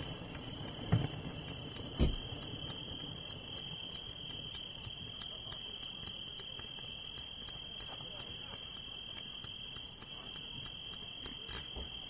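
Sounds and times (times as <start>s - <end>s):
crickets trilling: 0.0s - 12.0s
distant fireworks pops: 0.0s - 12.0s.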